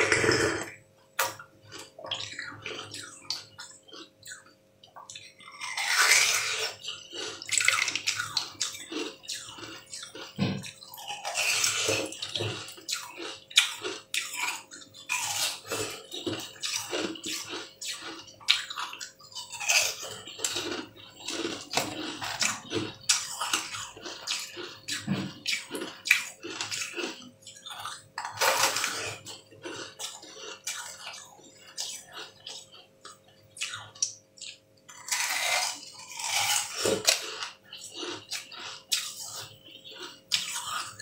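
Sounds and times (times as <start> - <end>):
chewing crunchy ice: 0.0 - 41.0.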